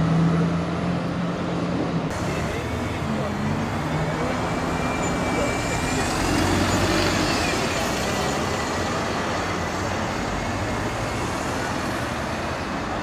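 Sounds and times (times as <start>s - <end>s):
bus engine and tyre noise: 0.0s - 13.0s.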